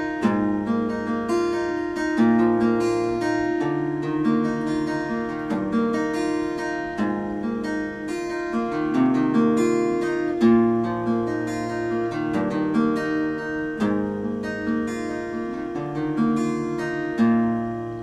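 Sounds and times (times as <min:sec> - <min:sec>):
acoustic guitar plucked and strummed: 0:00.0 - 0:18.0.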